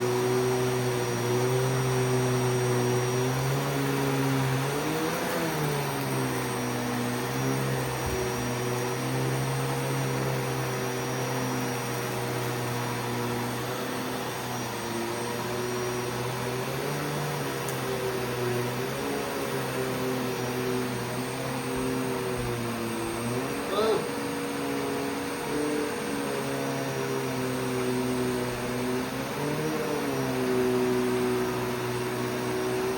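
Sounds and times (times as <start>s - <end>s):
vacuum cleaner droning: 0.0s - 32.9s.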